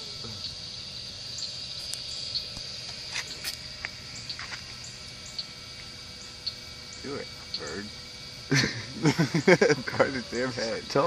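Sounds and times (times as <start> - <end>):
high-pitched insect chirring: 0.0 - 11.0.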